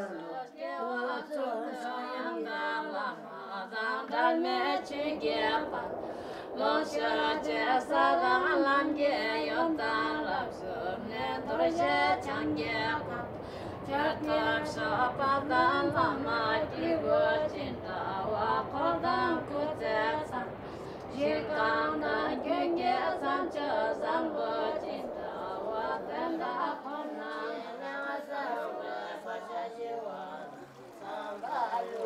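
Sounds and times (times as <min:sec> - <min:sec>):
women singing together: 0:00.0 - 0:32.0.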